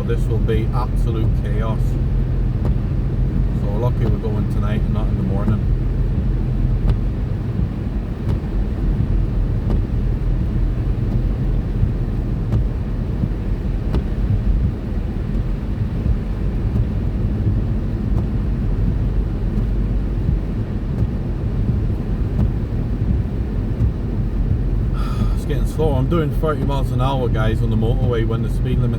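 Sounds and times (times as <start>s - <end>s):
car engine and tyre noise: 0.0s - 28.9s.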